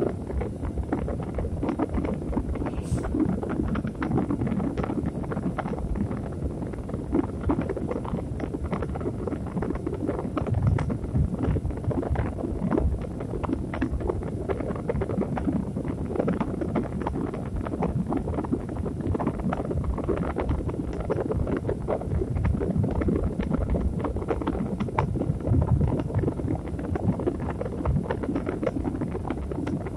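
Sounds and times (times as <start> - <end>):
crackles and pops: 0.0 - 29.9
low rumbling noise: 0.0 - 29.9.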